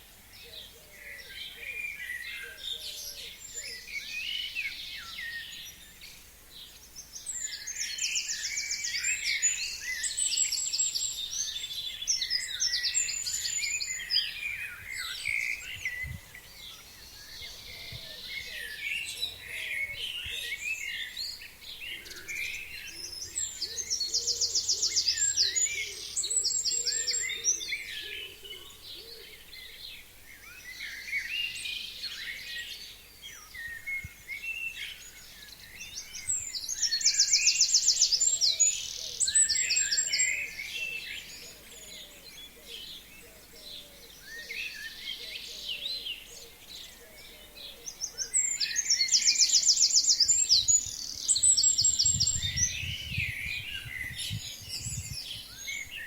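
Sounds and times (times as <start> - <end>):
forest birds singing: 0.0 - 56.0.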